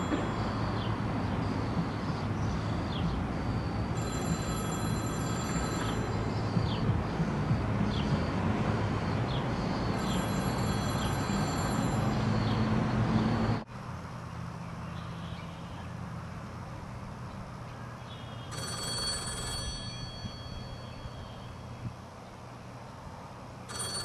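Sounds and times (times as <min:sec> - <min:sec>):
steady outdoor hum: 0:00.0 - 0:24.0
traffic rumble: 0:00.0 - 0:24.0.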